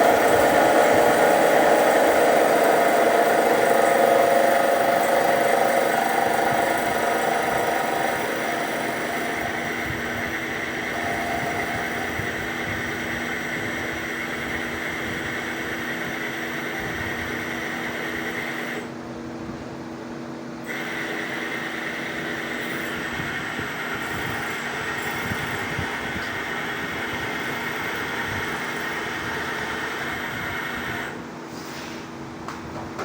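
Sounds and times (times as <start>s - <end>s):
machine hum with held tones: 0.0s - 19.2s, 20.5s - 31.5s.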